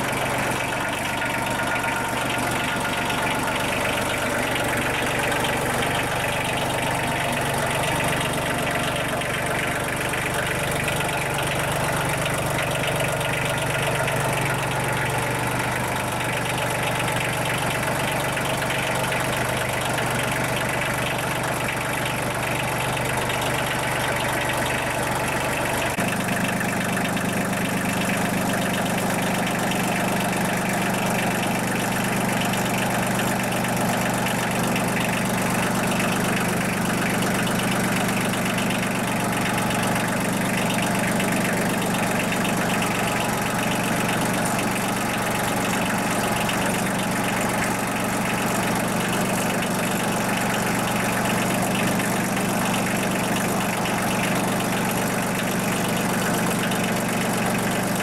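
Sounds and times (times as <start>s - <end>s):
tractor diesel engine idling: 0.0s - 58.0s.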